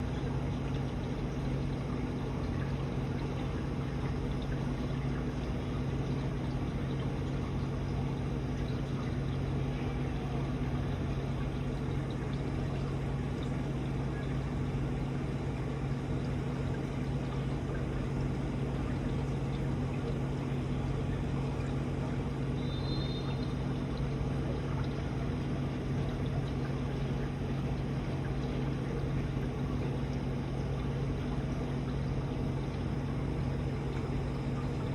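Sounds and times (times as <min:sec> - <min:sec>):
aquarium pump humming: 0:00.0 - 0:34.9
water trickling and splashing: 0:00.0 - 0:34.9.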